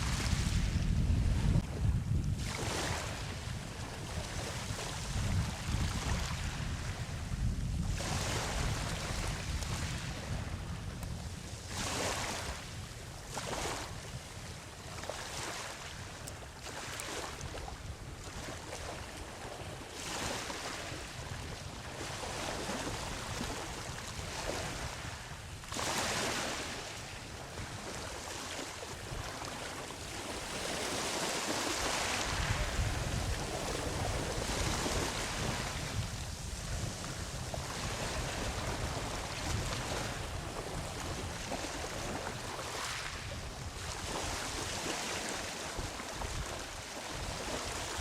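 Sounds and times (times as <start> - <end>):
ocean waves breaking on beach: 0.0 - 48.0
wind rumble on microphone: 0.0 - 48.0.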